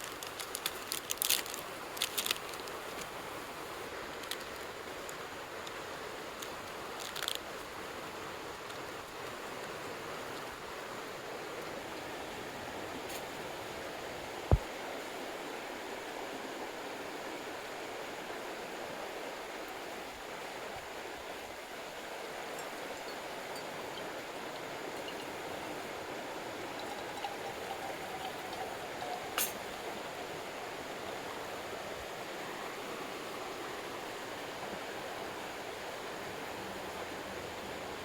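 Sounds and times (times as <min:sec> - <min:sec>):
stream water rushing: 0:00.0 - 0:38.0.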